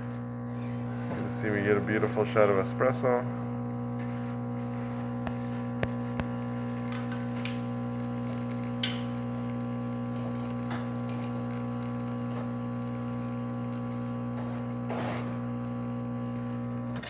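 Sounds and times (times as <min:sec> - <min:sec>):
espresso machine pump humming: 0:00.0 - 0:17.0.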